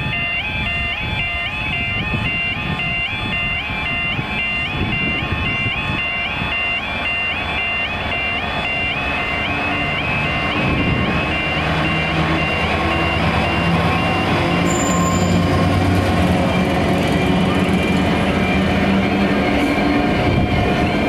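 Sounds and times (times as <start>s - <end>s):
level crossing alarm: 0.0s - 21.0s
locomotive engine running: 3.6s - 21.0s.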